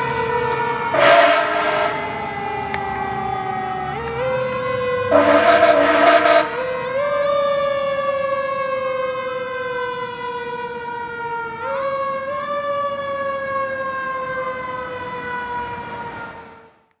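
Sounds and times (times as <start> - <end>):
mechanical siren wailing: 0.0 - 16.9.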